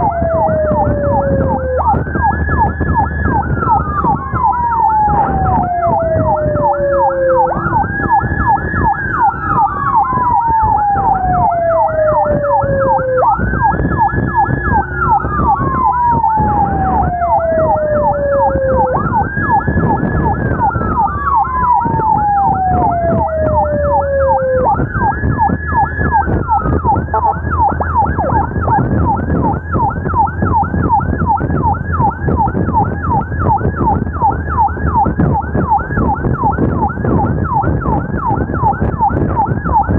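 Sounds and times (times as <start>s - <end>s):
siren wail: 0.0s - 39.9s
siren yelp: 0.0s - 39.9s.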